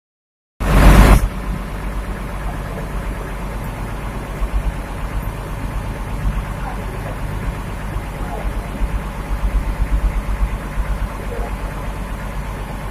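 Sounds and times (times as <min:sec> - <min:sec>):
engine idling: 0:00.6 - 0:12.9.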